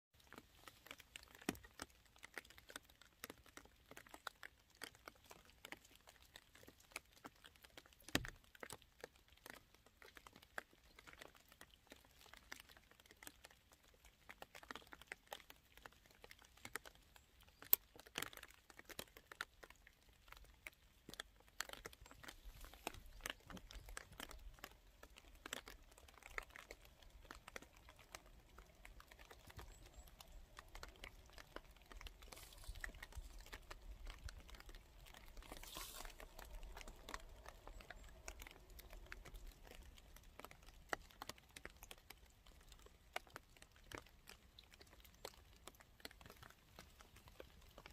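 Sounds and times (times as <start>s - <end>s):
raindrops pattering on roof tiles: 0.2s - 47.9s.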